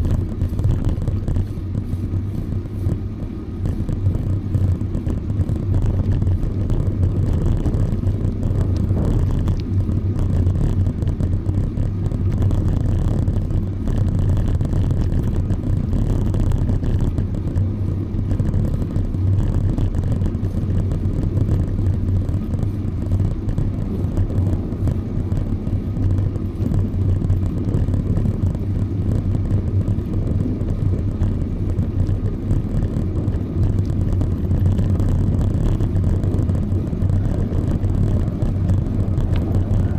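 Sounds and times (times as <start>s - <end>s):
tyres rolling on pavement: 0.0s - 39.9s
wind on microphone: 0.0s - 39.9s.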